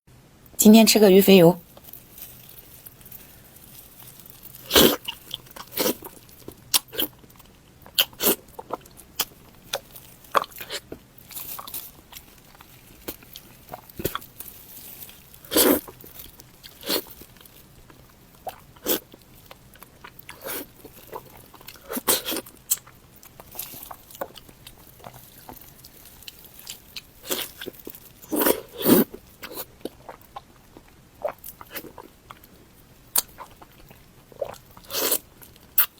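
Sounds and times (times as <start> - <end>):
wet bites and crunchy chewing: 1.6 - 35.9.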